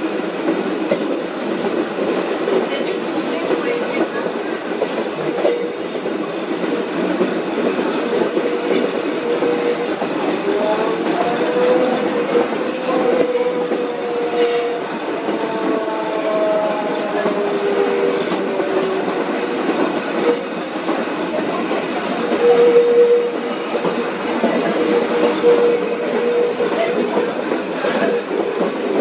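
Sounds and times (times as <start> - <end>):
train rolling on rails: 0.0 - 29.0.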